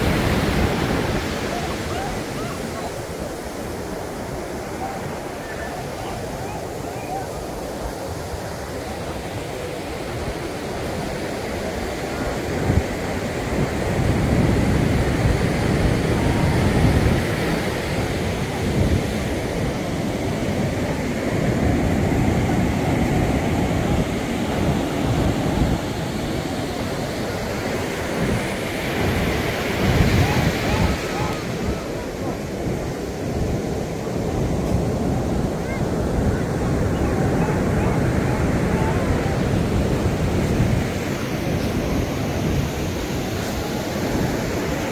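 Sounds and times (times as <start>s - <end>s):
ocean surf washing: 0.0s - 44.9s
wind rumbling on microphone: 0.0s - 44.9s.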